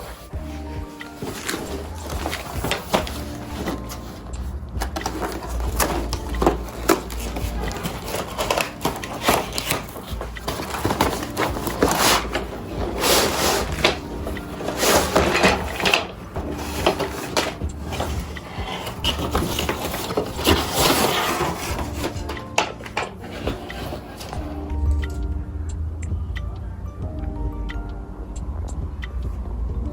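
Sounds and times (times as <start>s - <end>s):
household objects clattering: 0.0s - 24.6s.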